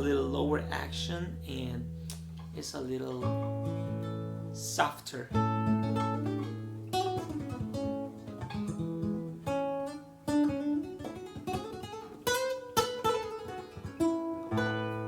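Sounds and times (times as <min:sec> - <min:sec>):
acoustic guitar plucked notes: 0:00.0 - 0:15.0
acoustic guitar strummed chords: 0:00.0 - 0:15.0.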